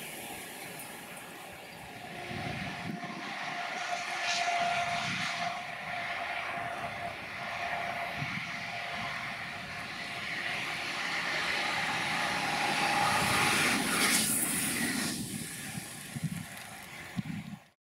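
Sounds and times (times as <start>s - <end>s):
train passing close by: 0.0s - 17.7s.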